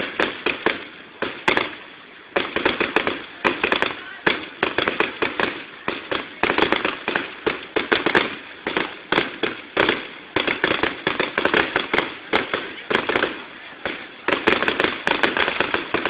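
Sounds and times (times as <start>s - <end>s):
fireworks banging and crackling: 0.0s - 16.0s.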